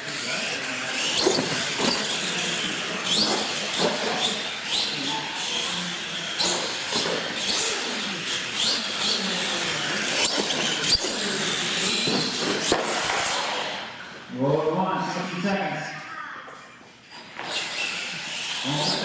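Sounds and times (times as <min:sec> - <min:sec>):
toy truck motors whining: 0:00.0 - 0:14.3, 0:17.0 - 0:19.0.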